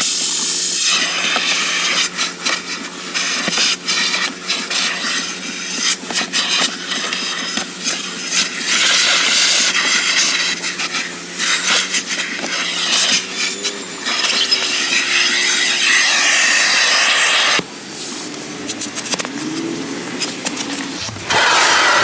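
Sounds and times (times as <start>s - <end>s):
car wash equipment hissing: 0.0s - 22.0s.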